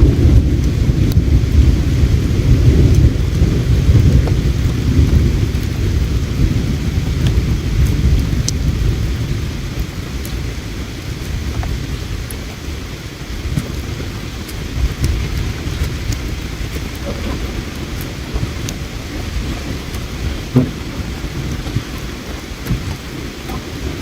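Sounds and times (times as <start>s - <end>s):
campfire crackling: 0.0s - 24.0s
deep low rumble: 0.0s - 24.0s.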